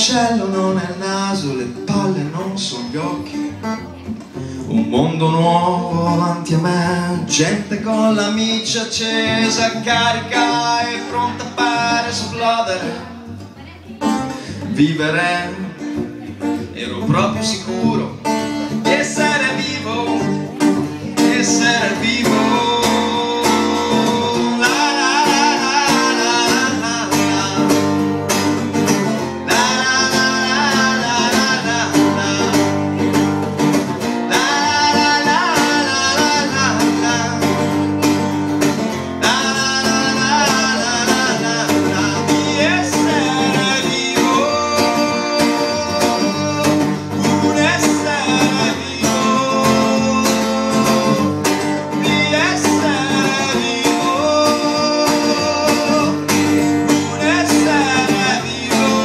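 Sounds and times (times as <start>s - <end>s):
man singing: 0.0s - 13.4s, 14.0s - 59.0s
strummed acoustic guitar: 0.0s - 59.0s.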